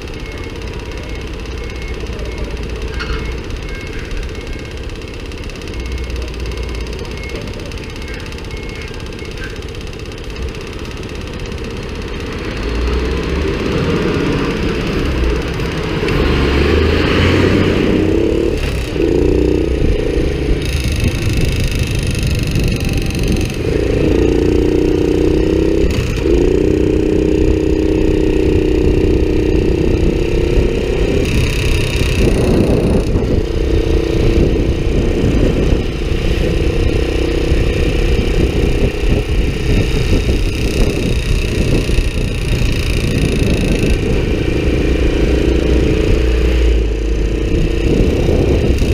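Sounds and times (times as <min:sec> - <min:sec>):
motorcycle engine ticking clatter: 0:00.0 - 0:48.9.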